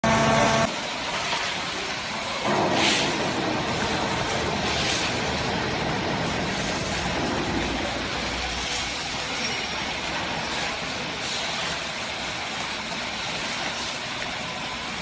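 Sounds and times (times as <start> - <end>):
baler machine running: 0.0 - 0.8, 2.4 - 15.0.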